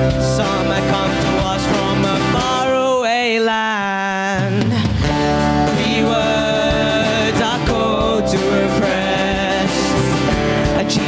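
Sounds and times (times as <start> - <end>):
band playing with guitar: 0.0 - 3.0, 4.3 - 11.0
person singing: 0.0 - 11.0.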